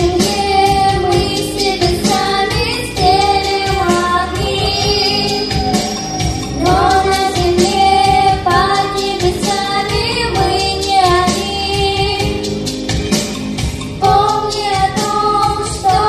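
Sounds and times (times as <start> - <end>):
backing music with steady beat: 0.0 - 16.0.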